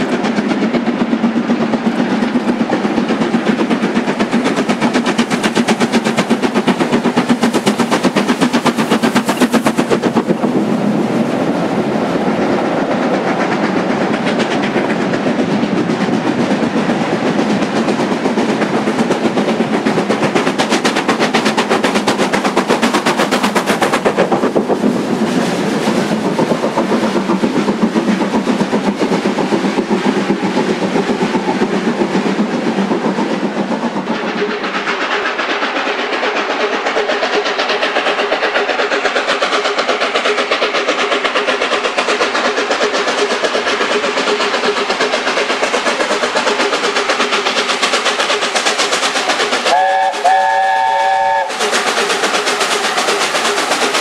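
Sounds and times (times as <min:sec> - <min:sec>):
coach wheels clattering over rail joints: 0:00.0 - 0:54.0
steam locomotive working: 0:00.0 - 0:54.0.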